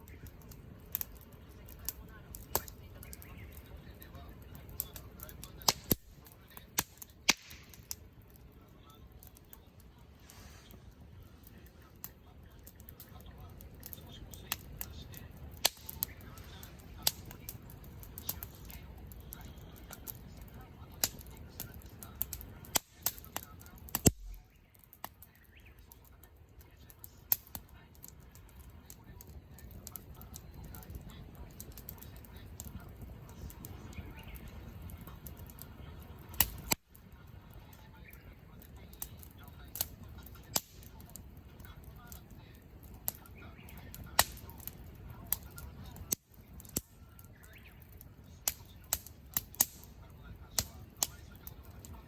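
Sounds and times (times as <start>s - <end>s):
campfire crackling and popping: 0.0s - 52.0s
low hiss of fire: 0.0s - 52.0s.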